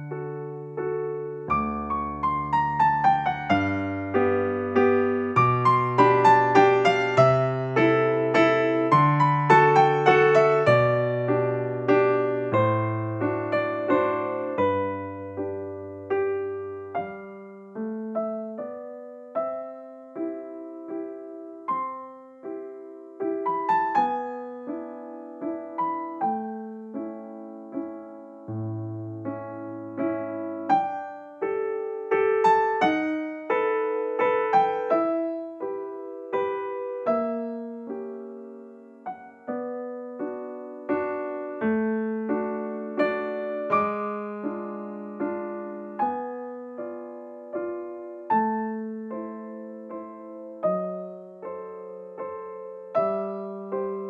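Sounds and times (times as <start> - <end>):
gentle piano music: 0.0 - 54.0.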